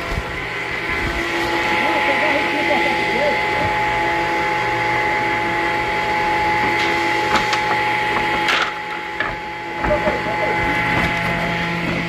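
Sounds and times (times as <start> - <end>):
woodworking machinery humming: 0.0 - 12.0.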